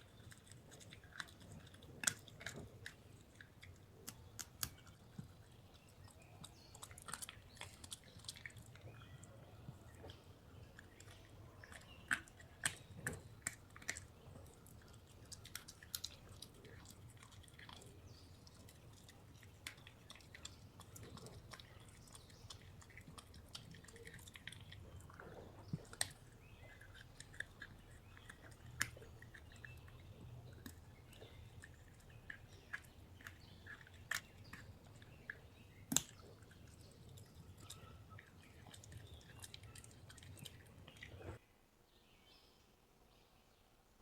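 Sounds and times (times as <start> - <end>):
chewing with small crunches: 0.0 - 41.4.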